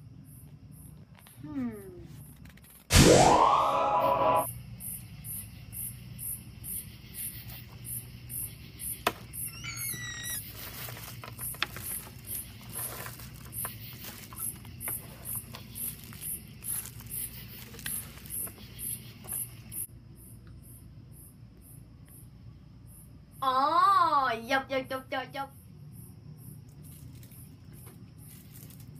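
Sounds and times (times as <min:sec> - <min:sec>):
crickets chirping: 0:00.0 - 0:02.9, 0:03.6 - 0:28.9.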